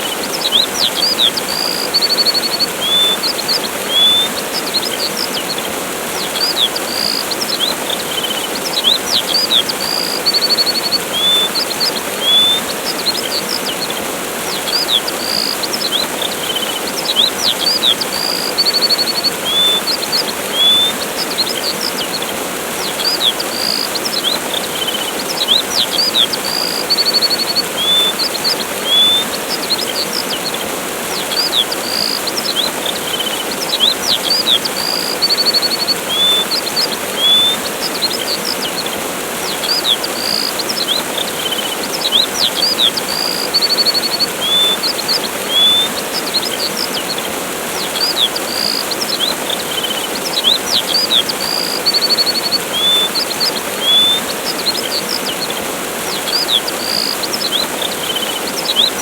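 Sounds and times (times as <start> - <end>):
songbirds chirping: 0.0 - 59.0
waterfall rushing: 0.0 - 59.0.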